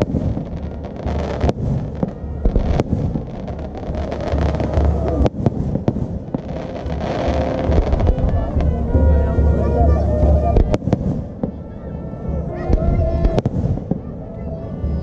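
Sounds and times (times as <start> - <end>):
fireworks crackling: 0.0 - 11.7, 12.5 - 14.8
steady low rumble: 0.0 - 15.0.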